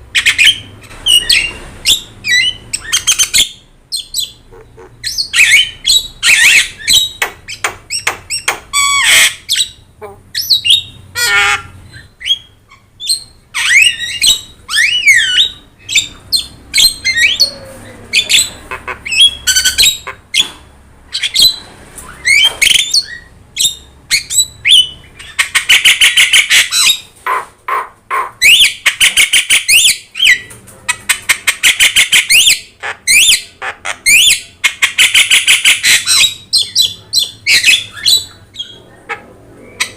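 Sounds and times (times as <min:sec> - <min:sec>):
myna bird singing: 0:00.0 - 0:39.9.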